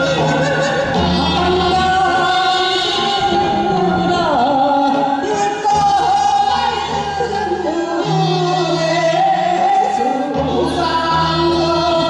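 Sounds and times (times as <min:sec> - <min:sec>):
instrumental accompaniment: 0:00.0 - 0:12.0
women singing folk song: 0:00.0 - 0:12.0.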